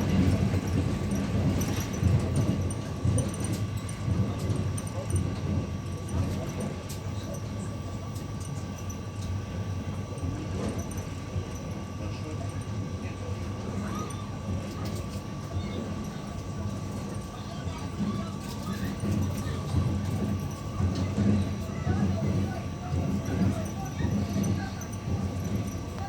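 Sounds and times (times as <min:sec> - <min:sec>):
train rumbling over rails: 0:00.0 - 0:26.0.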